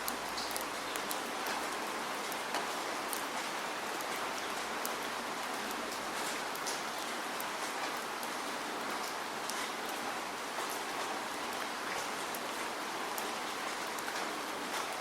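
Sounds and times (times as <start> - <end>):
raindrops ticking on surface: 0.0 - 15.0
steady rain hiss: 0.0 - 15.0.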